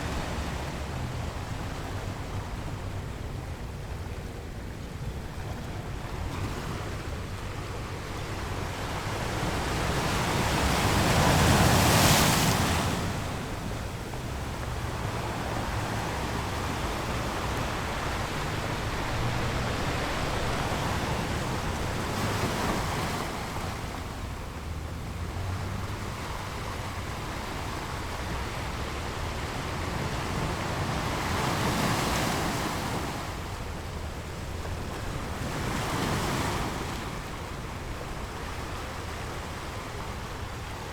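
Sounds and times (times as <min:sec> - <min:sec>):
steady low surf rush: 0:00.0 - 0:35.8
ocean waves breaking: 0:00.0 - 0:40.9.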